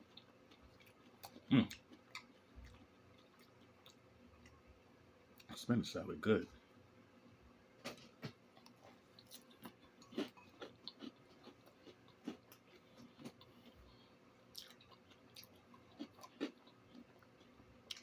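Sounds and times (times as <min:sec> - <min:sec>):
person chewing salad: 0:00.0 - 0:04.7, 0:07.8 - 0:18.0.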